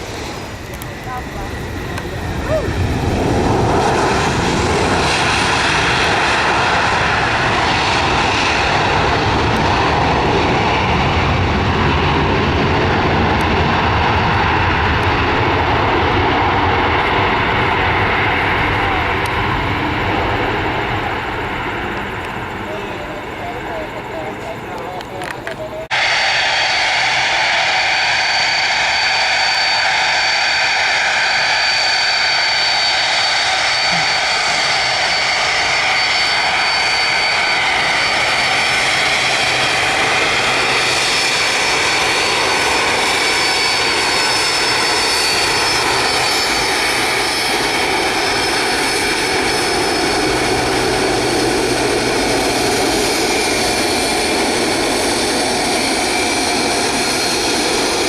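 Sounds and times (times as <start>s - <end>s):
jet engine running: 0.0s - 58.0s.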